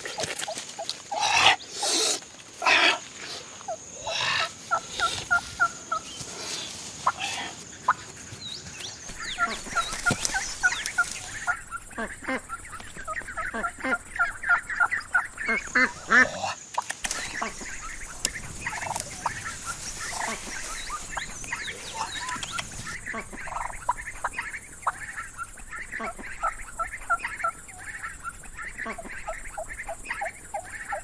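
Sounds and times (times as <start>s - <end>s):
rustling hiss: 0.0s - 30.2s
turkey and fowl clucking: 2.6s - 31.0s.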